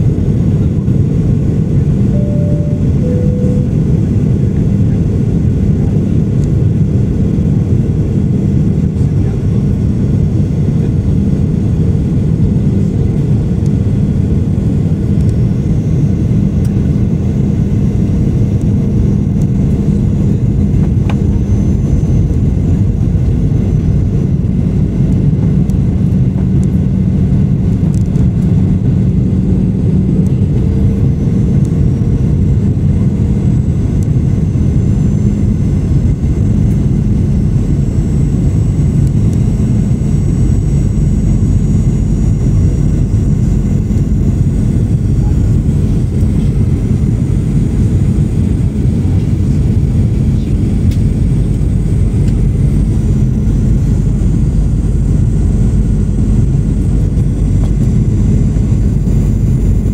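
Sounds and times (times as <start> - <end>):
airplane cabin roar: 0.0 - 59.9
low steady hum: 0.0 - 59.9.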